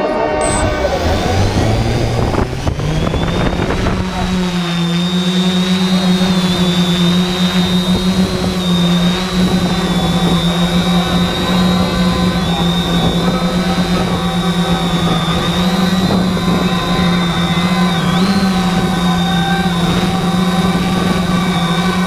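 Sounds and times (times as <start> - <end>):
drone motors humming and whining: 0.0 - 22.0.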